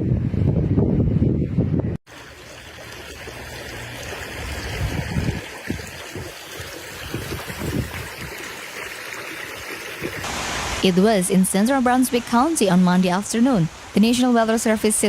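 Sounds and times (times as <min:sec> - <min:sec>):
floodwater flowing and splashing: 0:02.1 - 0:15.0.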